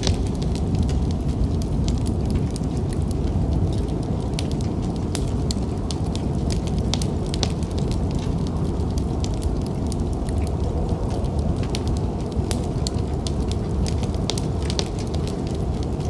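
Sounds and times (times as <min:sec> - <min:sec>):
storm wind rumble: 0:00.0 - 0:16.0
wood fire crackling and popping: 0:00.0 - 0:16.0.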